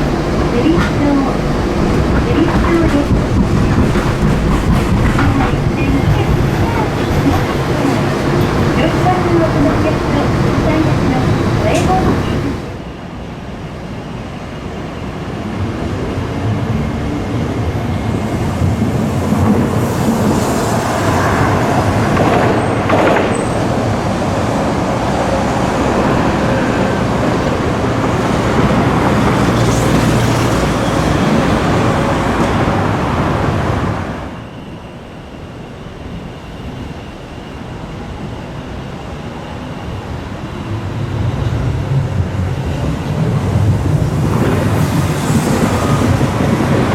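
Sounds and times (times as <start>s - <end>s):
streetcar rumbling on rails: 0.0s - 46.9s.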